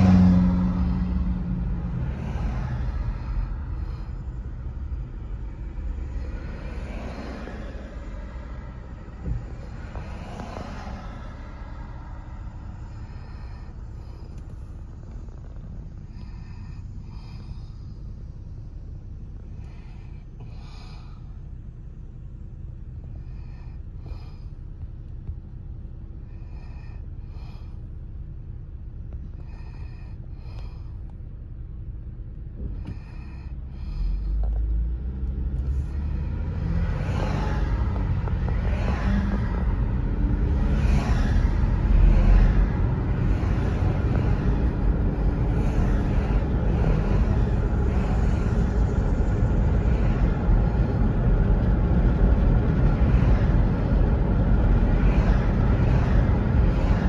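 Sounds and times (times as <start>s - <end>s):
car engine and tyre rumble: 0.0s - 57.0s
road noise: 0.0s - 57.0s.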